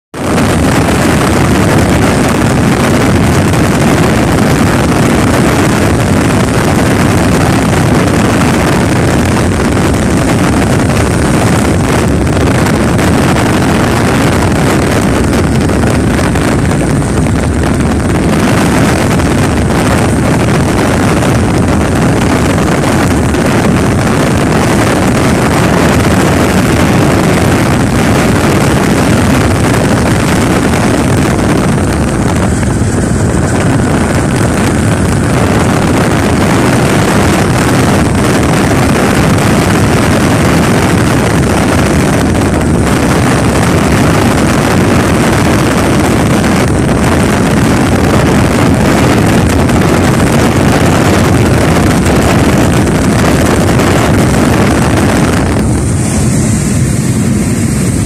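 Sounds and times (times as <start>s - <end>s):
road and wind noise inside vehicle: 0.0s - 58.0s
wind buffeting microphone: 0.1s - 58.0s.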